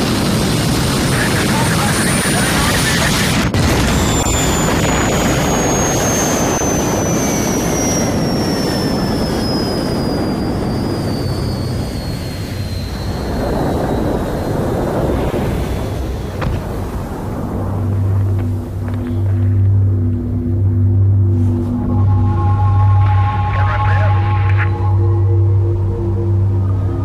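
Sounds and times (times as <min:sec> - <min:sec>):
jet turbine rumble and whine: 0:00.0 - 0:27.0.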